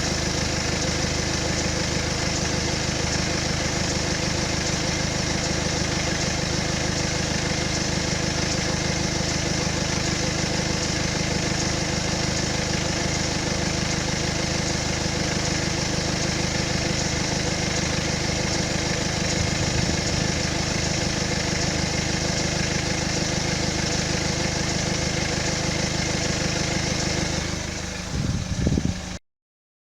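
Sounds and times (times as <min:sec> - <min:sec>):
diesel engine idling: 0:00.0 - 0:29.2
engine knocks: 0:00.0 - 0:29.2.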